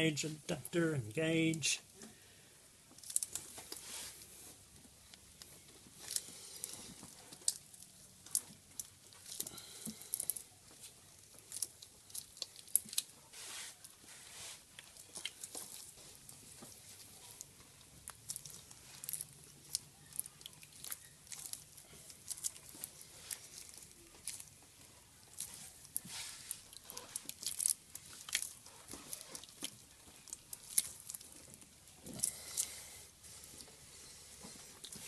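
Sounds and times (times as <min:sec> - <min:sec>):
crinkly rustles: 0:02.9 - 0:35.0.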